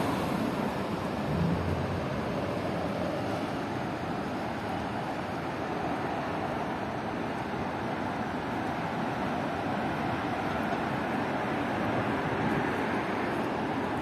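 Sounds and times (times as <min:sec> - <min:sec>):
traffic rumble and hiss: 0:00.0 - 0:14.0.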